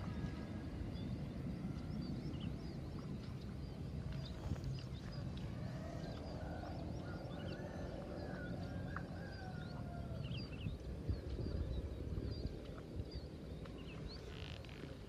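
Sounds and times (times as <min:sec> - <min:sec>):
low steady rumble: 0:00.0 - 0:15.0
small birds chirping: 0:00.9 - 0:15.0.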